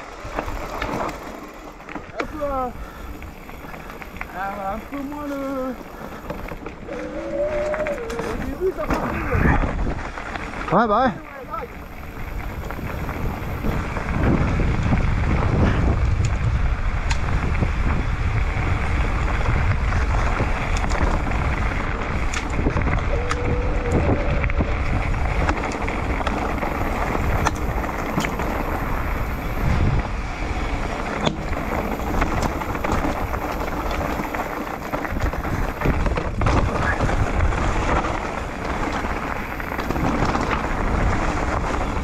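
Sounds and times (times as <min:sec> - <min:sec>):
bike knocking and rattling: 0:00.0 - 0:42.0
bike tyres over loose stones: 0:00.0 - 0:42.0
wind noise on microphone: 0:02.2 - 0:42.0.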